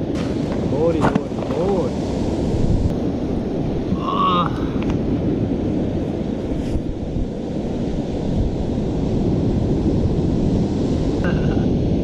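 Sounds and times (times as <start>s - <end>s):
surf washing onto shore: 0.0s - 12.0s
wind buffeting microphone: 0.0s - 12.0s.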